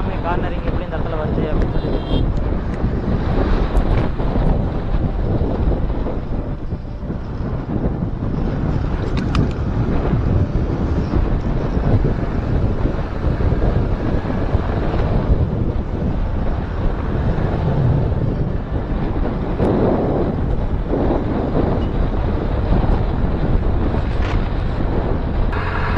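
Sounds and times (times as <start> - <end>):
motorcycle running: 0.0 - 25.9
wind buffeting microphone: 0.0 - 25.9.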